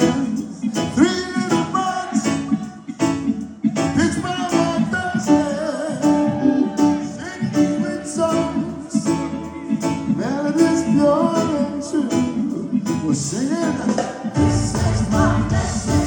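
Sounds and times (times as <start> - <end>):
lead vocals singing: 0.0 - 16.0
live reggae band: 0.0 - 16.0.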